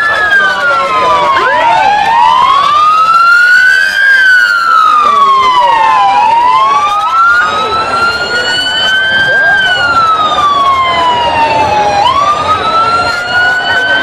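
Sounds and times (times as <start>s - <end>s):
crowd noise: 0.0s - 14.0s
vehicle sirens wailing: 0.0s - 14.0s.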